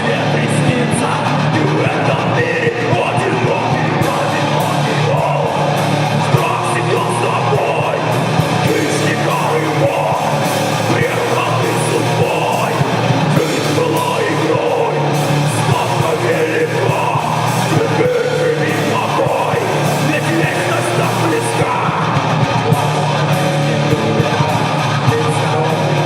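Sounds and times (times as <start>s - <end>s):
heavy rock music with guitar: 0.0s - 26.0s
person yelling singing: 0.0s - 26.0s.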